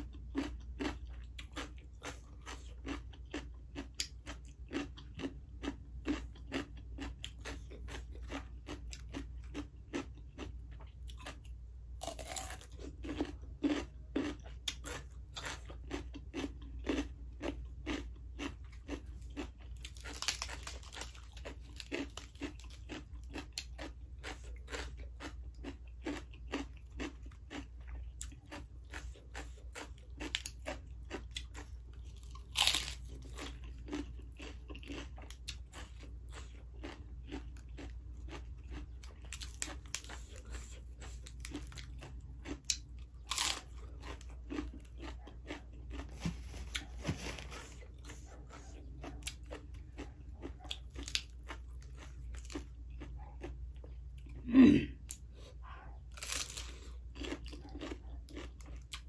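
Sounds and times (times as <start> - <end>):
person chewing crisp lettuce: 0.0 - 59.0.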